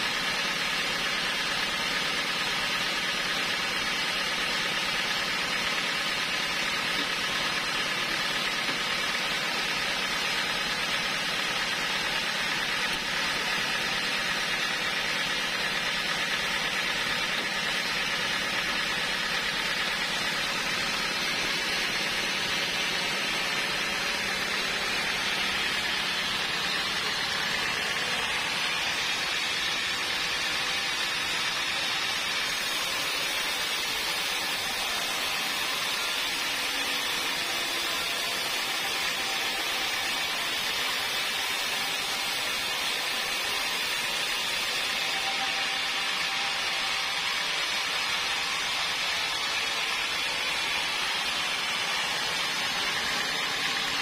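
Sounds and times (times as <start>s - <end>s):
band sawmill running: 0.0s - 54.0s
saw blade cutting log: 0.0s - 54.0s.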